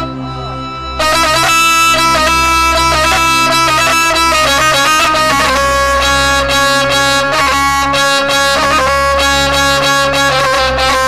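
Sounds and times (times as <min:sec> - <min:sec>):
low drone: 0:00.0 - 0:11.0
reedy melody: 0:00.0 - 0:11.0.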